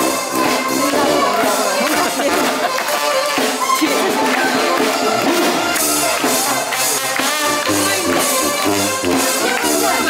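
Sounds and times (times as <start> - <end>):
brass band playing: 0.0 - 10.0
drums and cymbals: 0.0 - 10.0.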